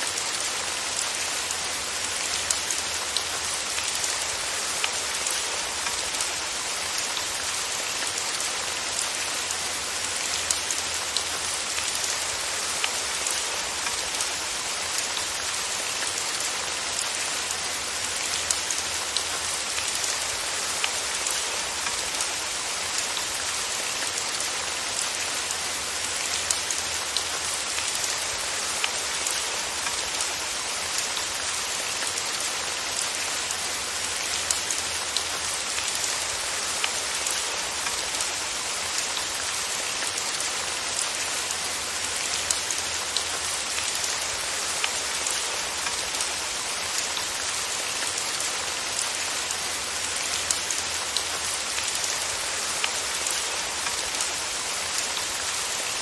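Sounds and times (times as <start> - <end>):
raindrops ticking on a surface: 0.0 - 56.0
steady rain falling: 0.0 - 56.0.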